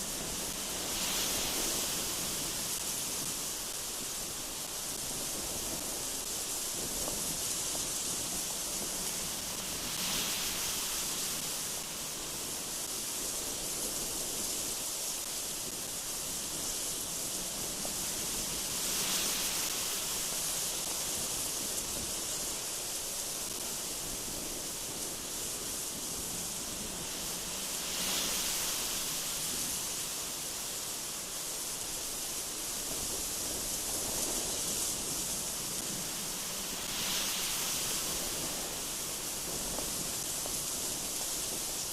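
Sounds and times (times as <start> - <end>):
strong wind hissing: 0.0 - 41.9.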